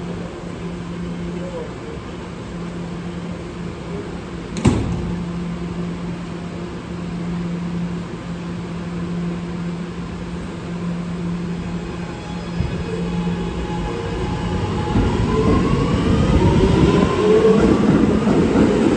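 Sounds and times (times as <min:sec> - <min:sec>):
machinery hum: 0:00.0 - 0:18.9.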